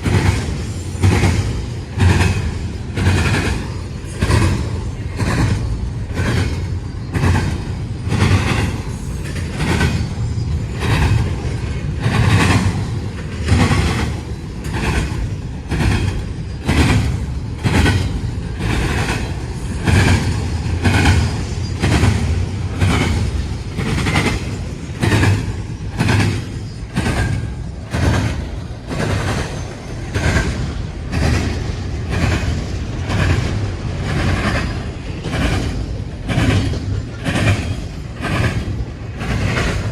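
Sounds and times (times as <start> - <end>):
train rumble: 0.0 - 39.9
train wheels clacking: 0.0 - 39.9.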